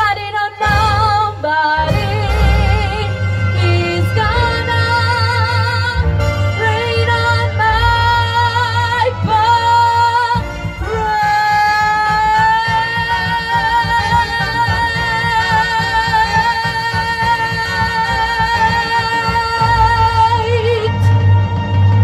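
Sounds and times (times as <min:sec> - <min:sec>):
backing track: 0:00.0 - 0:22.0.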